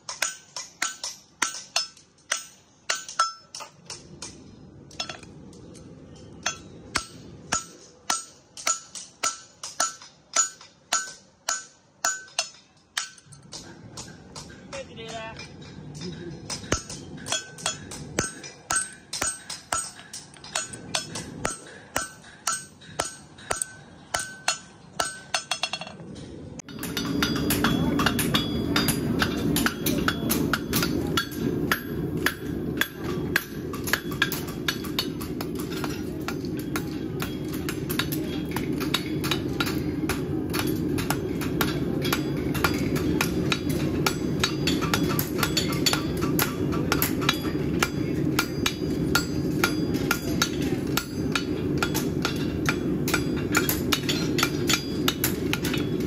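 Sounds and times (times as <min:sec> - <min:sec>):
hammers ringing on anvils: 0:00.0 - 0:05.3, 0:06.2 - 0:26.0, 0:26.6 - 0:56.0.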